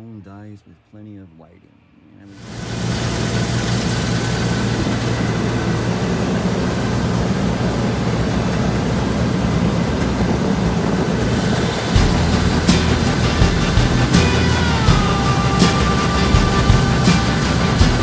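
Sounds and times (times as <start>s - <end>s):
mechanical rushing noise: 2.3s - 18.0s
heavy machinery engine running: 2.4s - 18.0s.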